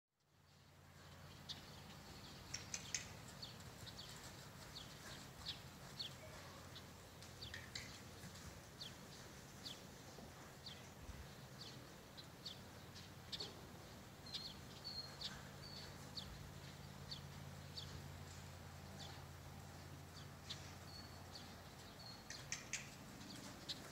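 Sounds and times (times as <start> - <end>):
faint low hum: 0.2 - 23.9
small birds chirping: 0.4 - 23.9.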